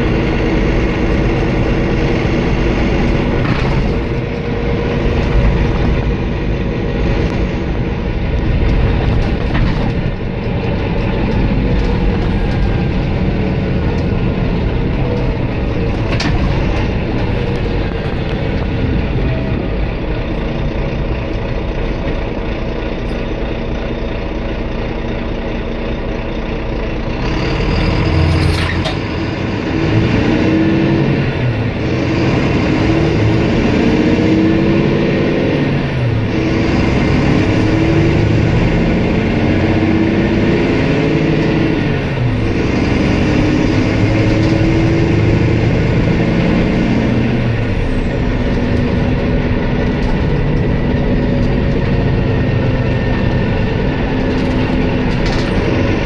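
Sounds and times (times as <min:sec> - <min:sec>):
diesel coach engine running: 0:00.0 - 0:56.0
road rumble: 0:00.0 - 0:56.0.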